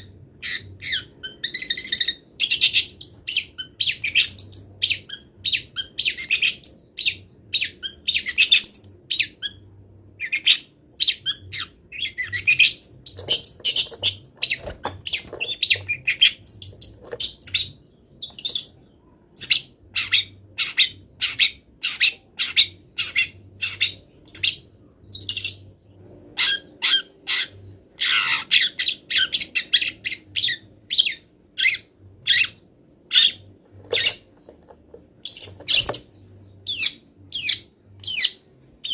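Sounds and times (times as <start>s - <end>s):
bird singing high chattering notes: 0.0s - 9.6s, 10.2s - 25.8s, 26.4s - 38.9s.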